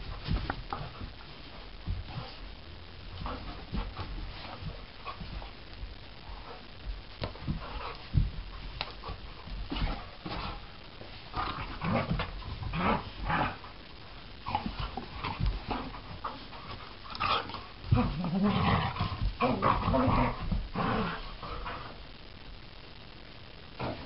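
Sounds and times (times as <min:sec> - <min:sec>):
dogs scuffling: 0:00.0 - 0:22.0.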